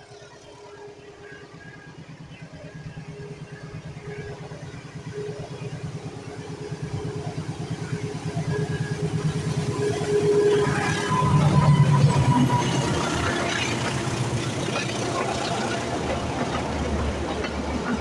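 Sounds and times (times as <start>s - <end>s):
diesel locomotive engine throbbing: 0.0s - 18.0s.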